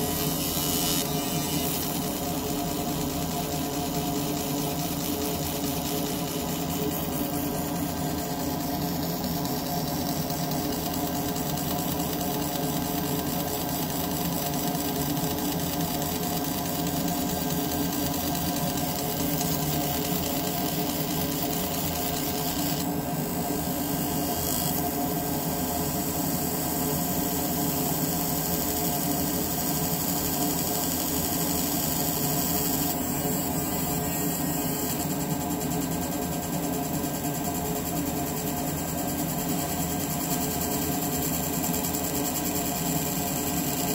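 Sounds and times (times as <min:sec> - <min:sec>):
laser engraver buzzing: 0:00.0 - 0:43.9.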